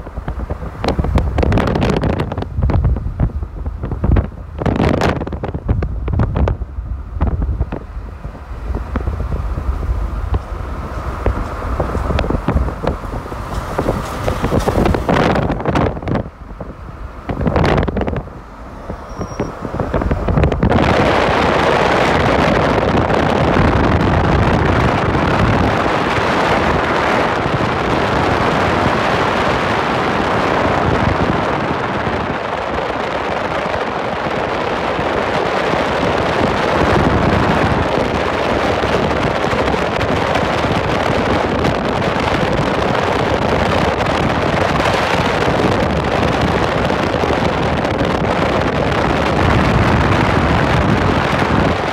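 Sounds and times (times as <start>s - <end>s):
car road noise: 0.0s - 51.9s
wind rushing over microphone: 0.0s - 51.9s.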